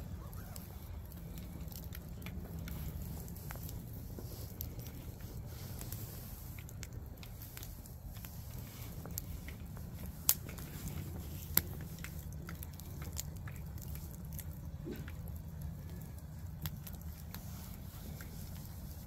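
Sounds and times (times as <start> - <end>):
bonfire crackling and popping: 0.0 - 19.0
low steady rumble: 0.0 - 19.0.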